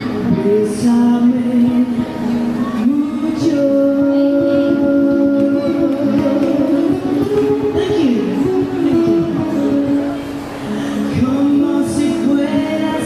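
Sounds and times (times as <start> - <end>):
live music: 0.0 - 13.0
person singing long held notes: 0.0 - 13.0.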